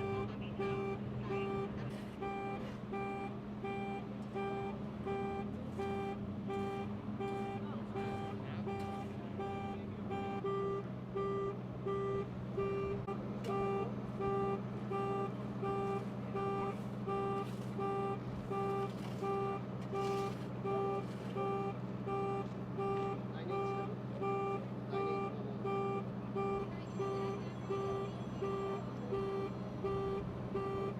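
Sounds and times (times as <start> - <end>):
reversing alarm beeping: 0.0 - 30.9.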